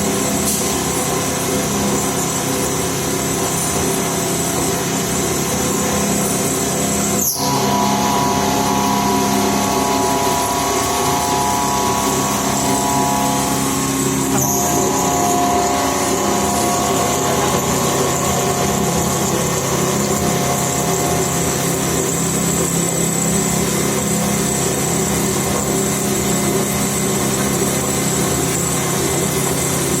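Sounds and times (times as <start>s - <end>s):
machine high whine: 0.0s - 30.0s
milling machine humming: 0.0s - 30.0s.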